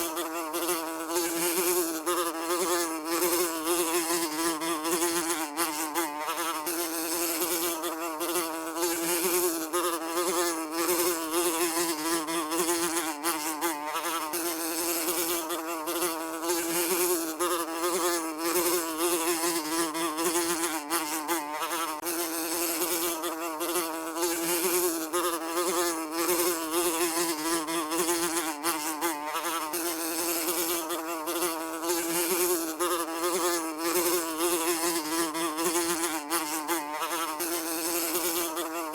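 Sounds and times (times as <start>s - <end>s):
housefly buzzing: 0.0s - 38.9s.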